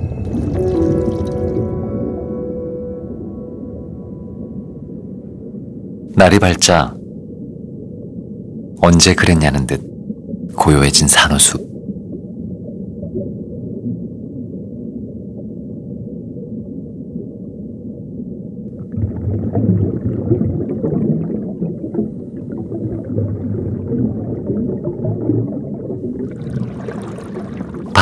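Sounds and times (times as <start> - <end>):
underwater rumble and gurgling: 0.0 - 28.0.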